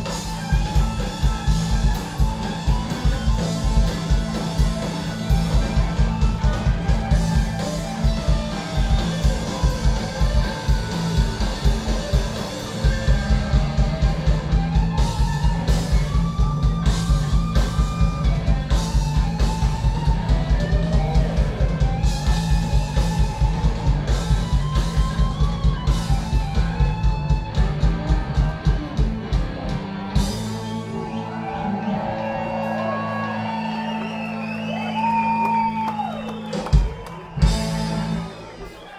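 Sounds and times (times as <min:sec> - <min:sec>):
drum kit beat: 0:00.0 - 0:31.0, 0:35.6 - 0:38.3
electric guitars: 0:00.0 - 0:38.9.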